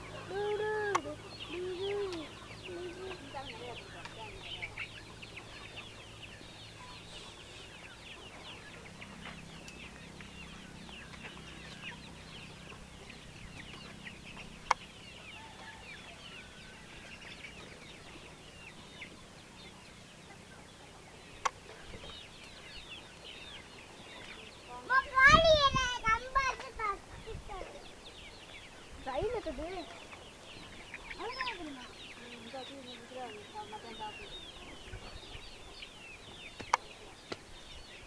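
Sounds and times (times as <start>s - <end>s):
chickens peeping and chirping: 0.0s - 38.0s.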